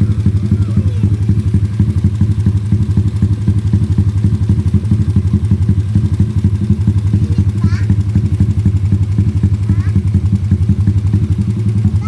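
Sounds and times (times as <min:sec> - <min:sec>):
motorcycle engine idling loud: 0:00.0 - 0:12.0.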